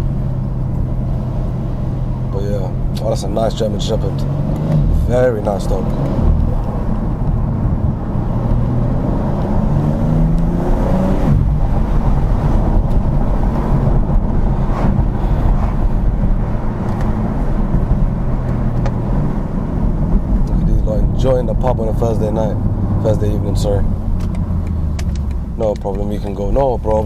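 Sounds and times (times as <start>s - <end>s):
car engine pulling: 0.0s - 27.0s
road rumble: 0.0s - 27.0s.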